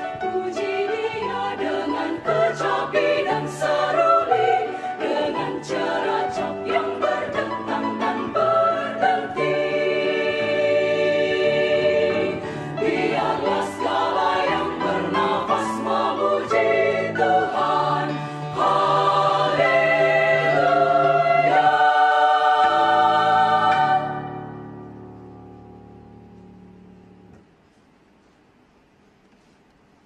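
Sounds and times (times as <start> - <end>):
women's choir singing: 0.0 - 24.6.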